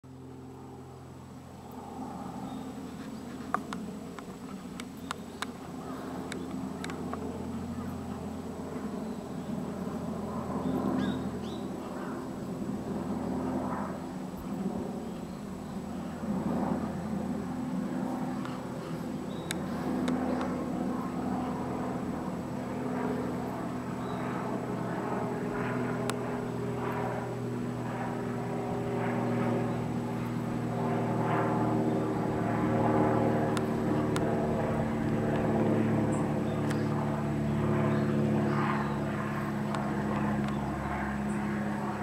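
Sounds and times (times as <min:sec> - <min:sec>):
engine drone: 0:00.0 - 0:42.0.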